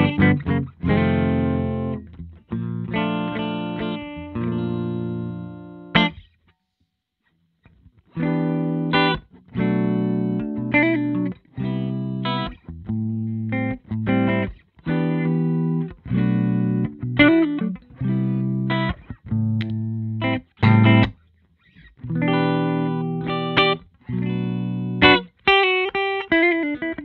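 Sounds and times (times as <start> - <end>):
electric guitar chords: 0.0 - 6.2, 8.1 - 21.2, 22.0 - 27.0.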